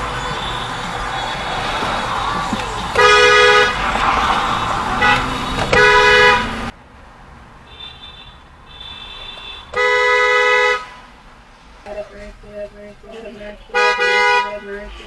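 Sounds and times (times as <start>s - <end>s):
car horns honking: 0.0s - 6.8s, 7.7s - 11.2s, 11.9s - 15.0s
road noise: 0.0s - 15.0s.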